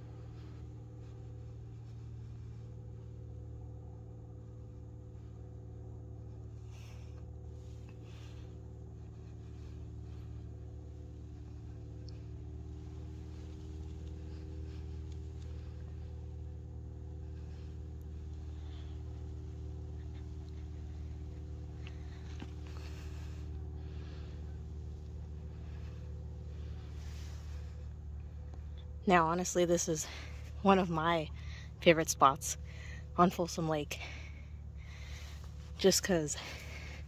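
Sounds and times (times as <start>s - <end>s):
faint hum: 0.0s - 37.0s
low rumble: 0.0s - 37.0s.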